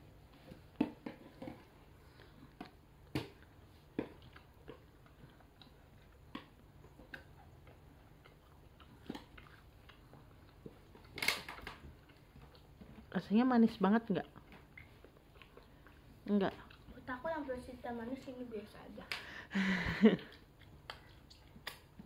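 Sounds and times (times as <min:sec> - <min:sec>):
person chewing with wet clicks: 0:00.4 - 0:17.6, 0:20.2 - 0:22.0.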